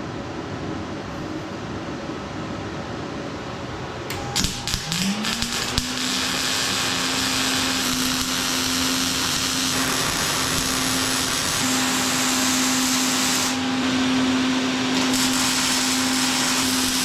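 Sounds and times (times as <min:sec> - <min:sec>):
fume extractor fan running: 0:01.6 - 0:17.0.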